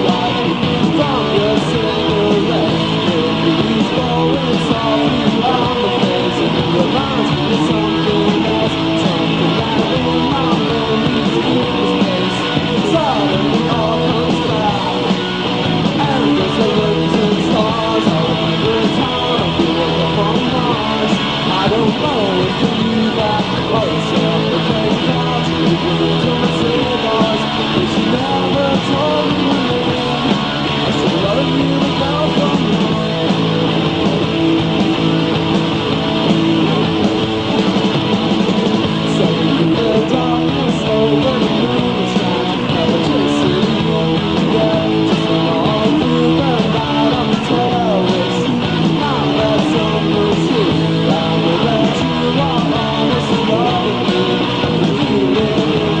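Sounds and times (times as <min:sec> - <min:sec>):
bass: 0:00.0 - 0:56.0
drums: 0:00.0 - 0:56.0
electric guitar: 0:00.0 - 0:56.0.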